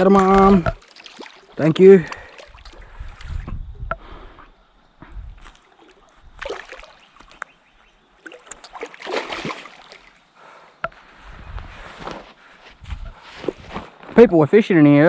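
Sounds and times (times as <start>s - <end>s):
water splashing and sloshing: 0.0s - 13.8s.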